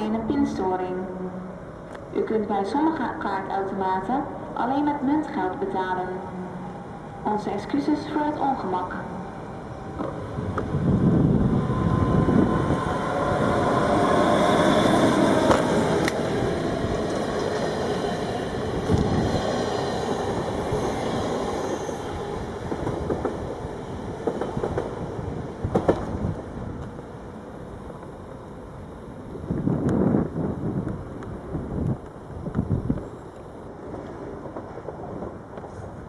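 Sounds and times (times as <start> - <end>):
train rumbling past: 0.0 - 36.0.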